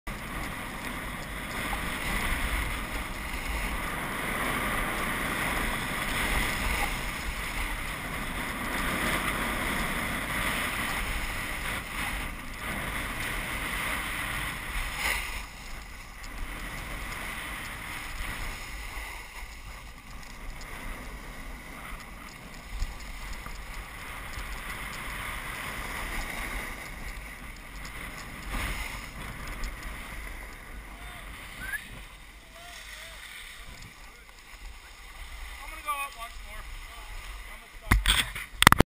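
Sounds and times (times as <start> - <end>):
sliding on packed snow: 0.1 - 38.6
wind on microphone: 0.1 - 38.8.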